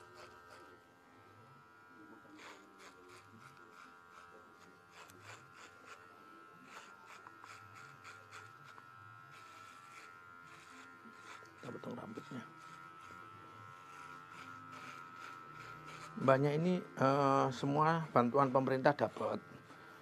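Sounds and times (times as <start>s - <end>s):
electric hair clipper humming: 0.0s - 20.0s.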